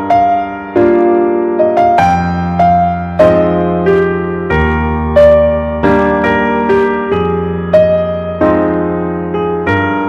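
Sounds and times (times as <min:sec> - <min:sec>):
slow sad piano music: 0:00.0 - 0:10.0.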